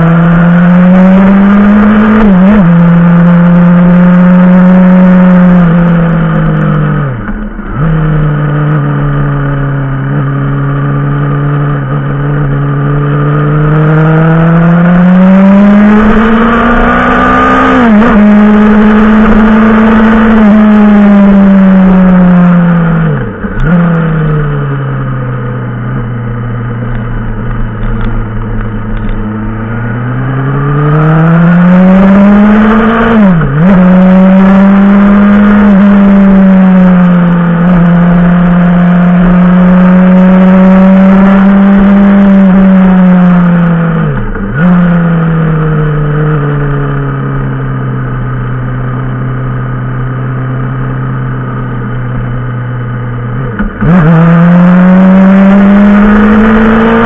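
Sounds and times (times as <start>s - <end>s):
motorcycle engine revving under load: 0.0s - 57.0s.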